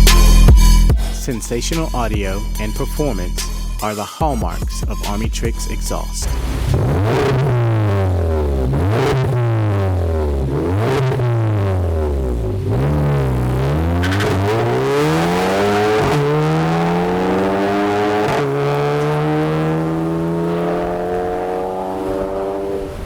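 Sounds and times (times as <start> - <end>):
car engine revving: 0.0 - 3.8, 5.0 - 23.0.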